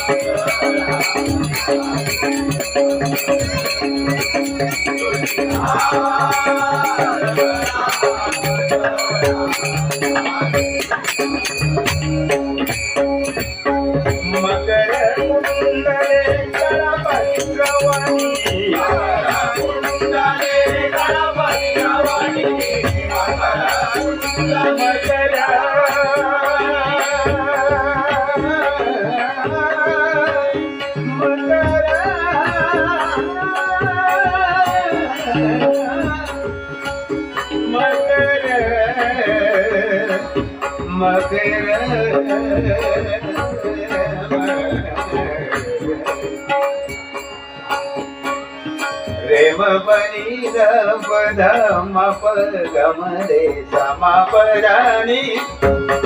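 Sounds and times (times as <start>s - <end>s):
harmonium drone: 0.0s - 56.0s
man singing devotional song: 0.0s - 56.0s.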